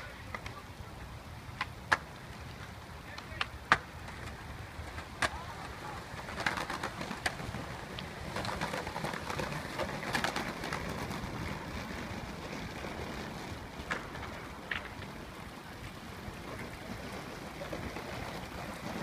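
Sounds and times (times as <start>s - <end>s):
skateboards clacking on concrete: 0.0s - 19.0s.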